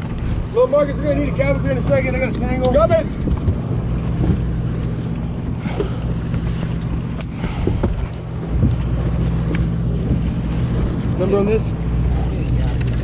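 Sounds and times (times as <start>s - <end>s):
boat engine humming: 0.0s - 13.0s
wind: 0.0s - 13.0s.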